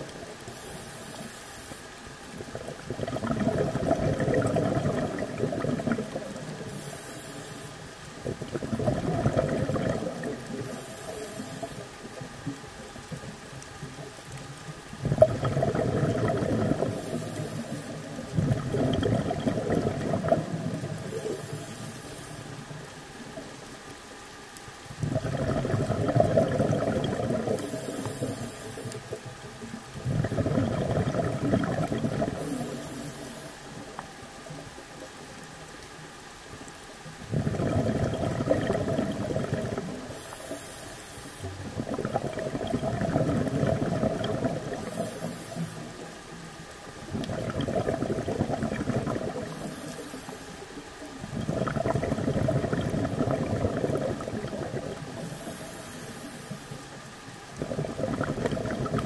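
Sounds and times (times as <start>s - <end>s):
bubbles gurgling underwater: 2.2s - 6.8s, 8.1s - 21.8s, 24.8s - 35.5s, 36.6s - 40.3s, 41.4s - 55.6s, 56.7s - 59.0s.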